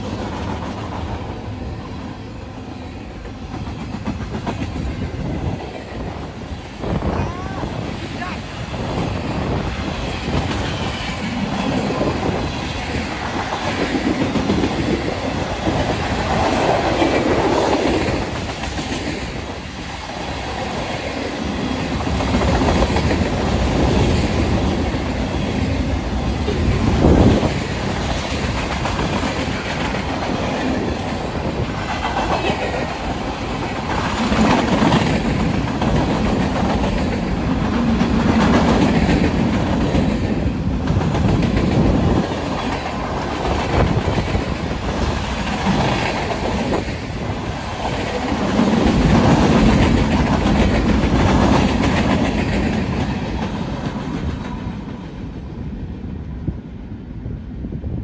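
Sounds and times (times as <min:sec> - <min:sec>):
freight train wheels clacking: 0:00.0 - 0:55.4.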